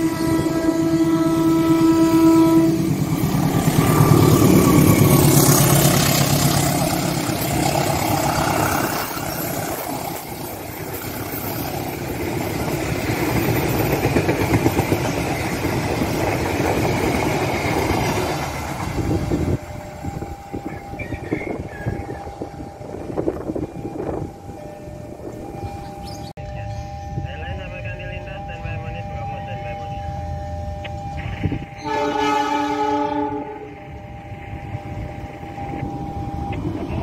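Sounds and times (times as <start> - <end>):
train wheels on rails: 0.0 - 26.3, 33.2 - 37.0
locomotive engine running: 0.0 - 31.8.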